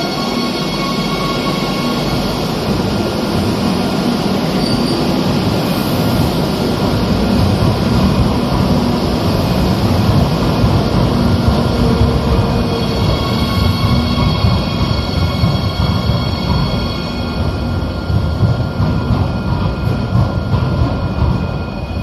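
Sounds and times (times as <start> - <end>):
train rail rumble: 0.0 - 22.0.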